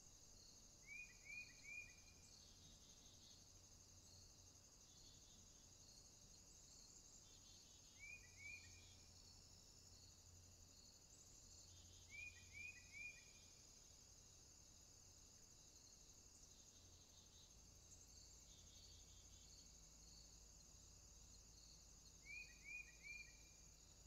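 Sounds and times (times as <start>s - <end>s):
insect chorus chirring: 0.0s - 24.0s.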